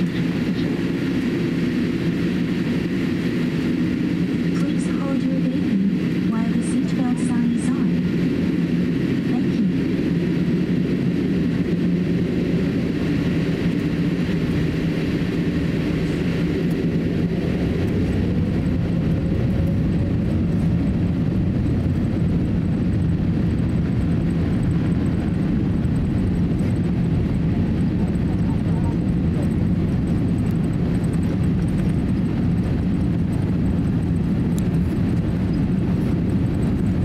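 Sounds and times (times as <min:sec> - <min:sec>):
airliner engines humming: 0:00.0 - 0:37.0.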